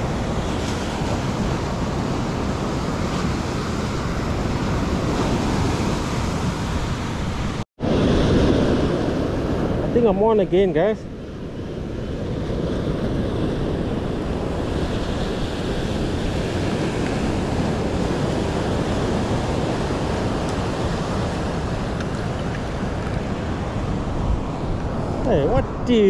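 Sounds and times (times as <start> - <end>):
surf rushing: 0.0 - 26.0
wind on microphone: 0.0 - 26.0.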